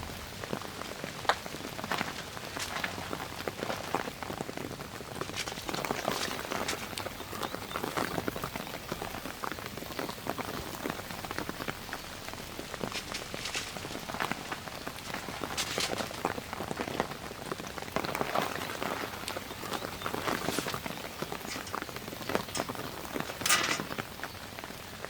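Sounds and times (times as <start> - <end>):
raindrops striking close by: 0.0 - 25.0
steady rain: 0.0 - 25.0.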